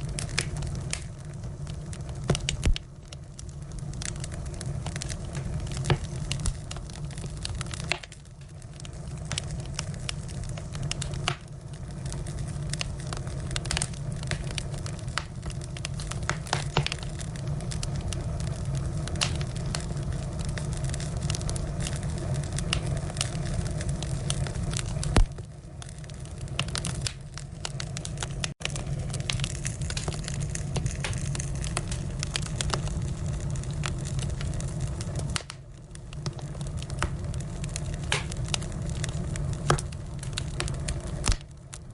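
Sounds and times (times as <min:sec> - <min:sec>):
firewood crackling and popping: 0:00.0 - 0:41.9
steady low rumble: 0:00.0 - 0:41.9.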